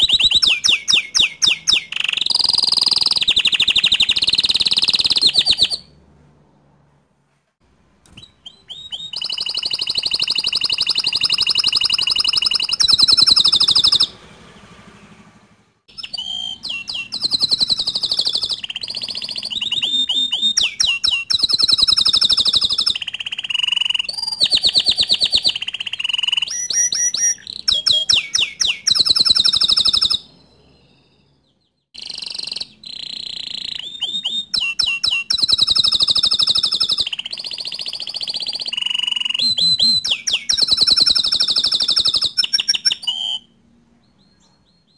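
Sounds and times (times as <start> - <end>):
canary singing trills: 0.0 - 6.0, 8.1 - 14.7, 15.9 - 44.9.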